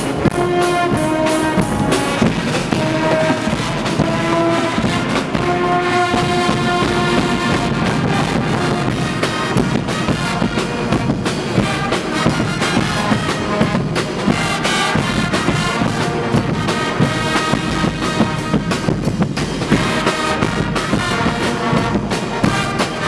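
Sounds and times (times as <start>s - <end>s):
brass band playing loudly: 0.0s - 23.0s.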